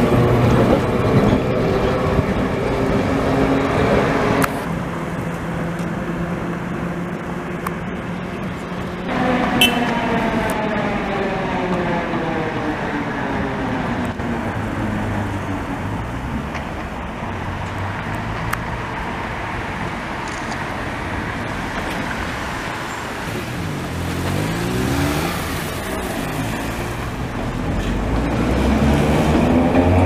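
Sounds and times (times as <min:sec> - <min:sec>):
tram rolling noise: 0:00.0 - 0:30.0.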